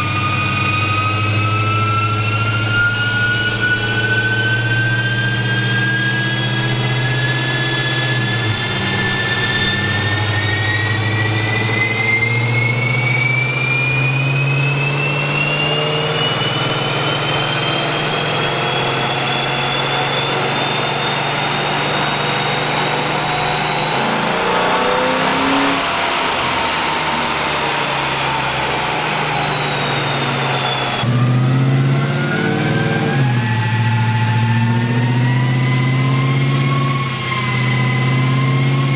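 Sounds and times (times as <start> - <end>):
low engine note: 0.0 - 38.9
rising engine whine: 0.0 - 38.9.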